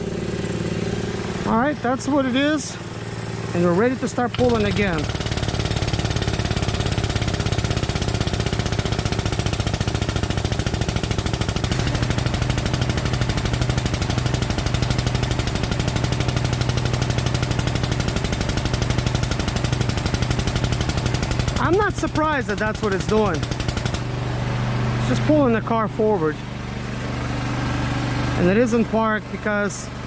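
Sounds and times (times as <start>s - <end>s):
engine pulsing hum: 0.0s - 30.0s.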